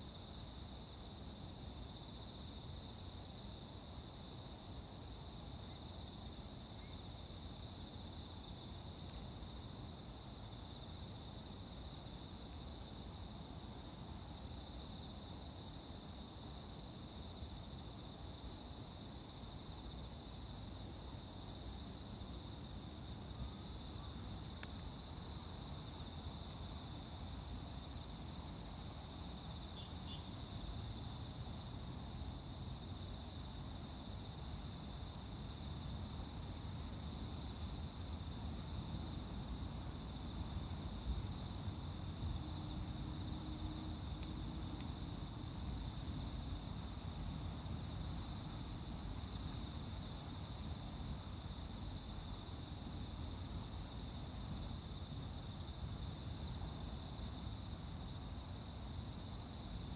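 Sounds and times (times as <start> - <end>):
insects trilling: 5.2 - 13.0, 14.4 - 59.9.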